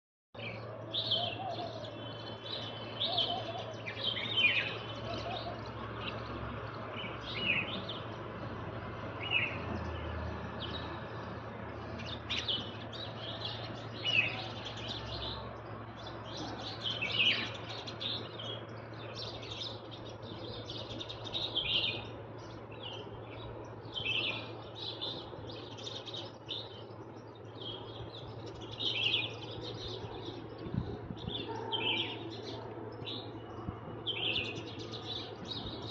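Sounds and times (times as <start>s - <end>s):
small birds chirping: 0.4s - 35.9s
steady low hum: 0.4s - 35.9s.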